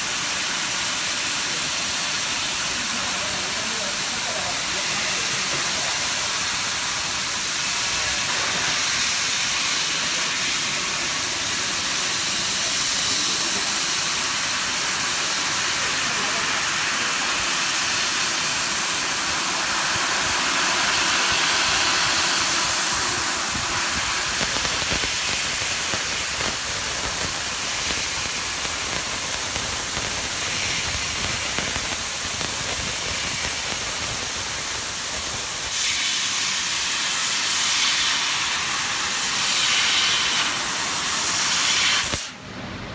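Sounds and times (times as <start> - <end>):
laser cutter gas jet hissing: 0.0 - 42.4.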